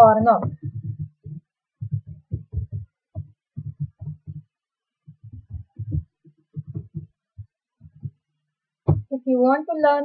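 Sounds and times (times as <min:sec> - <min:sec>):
keyboard typing: 0:00.0 - 0:08.2.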